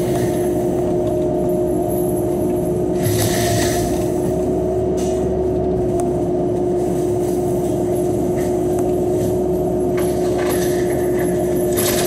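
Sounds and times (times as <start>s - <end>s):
excavator machine drone with whine: 0.0s - 12.0s.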